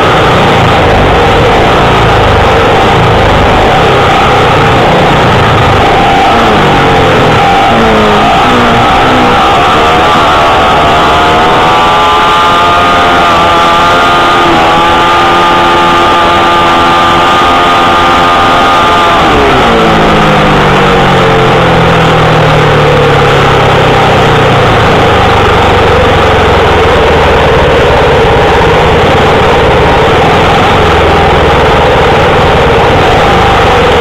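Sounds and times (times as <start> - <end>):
motorcycle engine revving: 0.0 - 34.0
rush of wind and track noise: 0.0 - 34.0.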